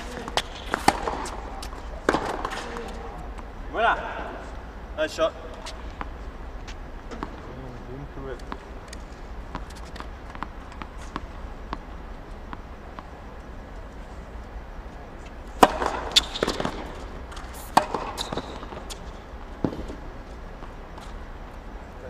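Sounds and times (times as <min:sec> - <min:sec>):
tennis ball bounces: 0:00.0 - 0:03.5, 0:05.5 - 0:07.6, 0:08.3 - 0:14.4, 0:15.0 - 0:21.6
tennis balls struck with rackets: 0:00.0 - 0:04.5, 0:05.4 - 0:07.6, 0:08.2 - 0:21.7.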